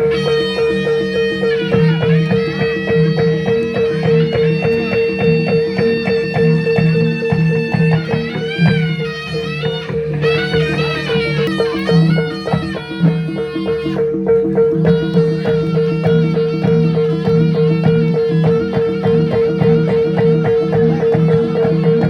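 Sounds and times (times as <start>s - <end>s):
gamelan ensemble music: 0.0s - 22.0s
high wavering melody: 0.0s - 22.0s.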